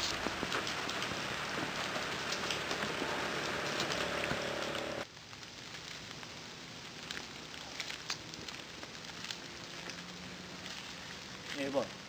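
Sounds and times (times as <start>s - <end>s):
footsteps through dry grass: 0.0s - 12.0s
rain drumming on a car roof: 0.0s - 12.0s.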